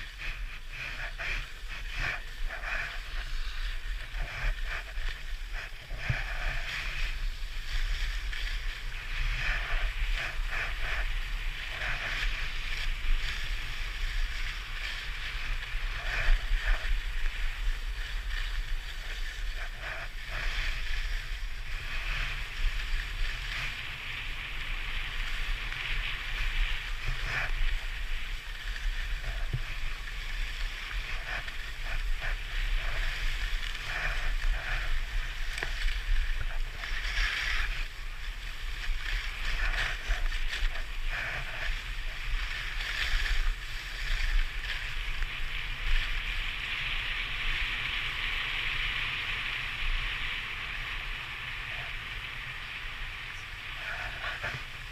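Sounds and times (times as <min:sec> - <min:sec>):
steady low rumble: 0:00.0 - 0:48.7
skis scraping over snow: 0:00.0 - 0:54.9.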